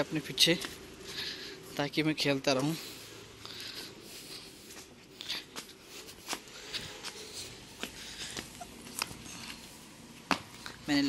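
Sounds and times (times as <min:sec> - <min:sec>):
footsteps on concrete floor: 0:00.4 - 0:10.8.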